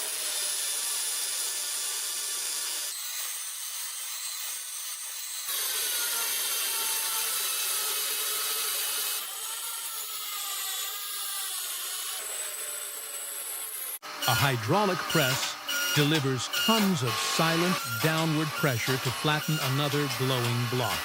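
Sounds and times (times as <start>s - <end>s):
rotary tool grinding steel: 0.0s - 21.0s.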